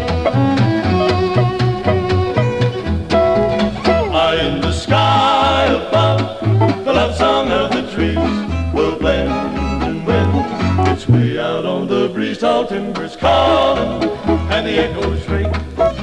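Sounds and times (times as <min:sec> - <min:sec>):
fiddle: 0:00.0 - 0:11.6, 0:13.2 - 0:16.0
upright bass plucking: 0:00.0 - 0:12.3, 0:12.9 - 0:16.0
guitars: 0:00.0 - 0:16.0.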